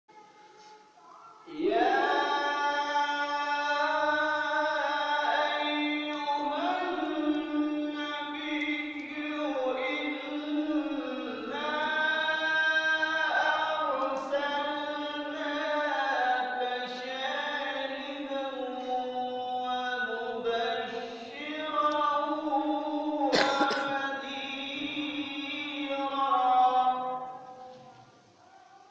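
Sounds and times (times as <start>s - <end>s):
man chanting: 1.0s - 28.0s.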